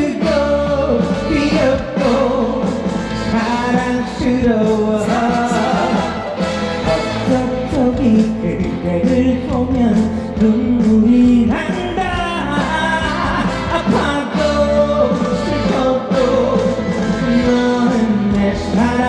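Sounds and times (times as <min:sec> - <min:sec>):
band playing: 0:00.0 - 0:19.0
person singing: 0:00.0 - 0:19.0.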